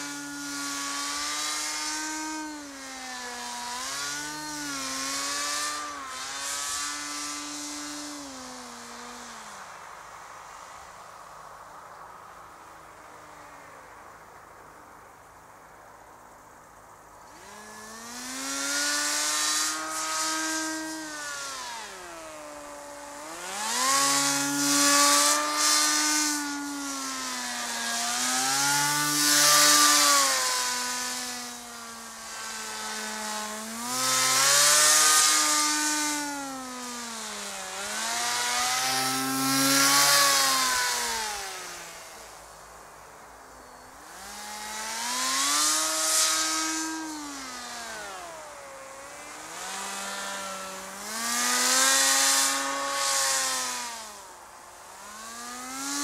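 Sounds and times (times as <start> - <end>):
electric motor and propeller buzzing: 0.0 - 14.4, 16.1 - 56.0.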